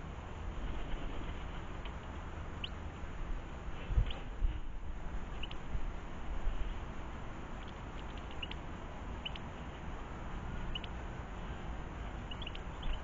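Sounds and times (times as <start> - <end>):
low outdoor rumble: 0.0 - 13.0
small birds chirping: 0.8 - 5.8, 6.5 - 13.0.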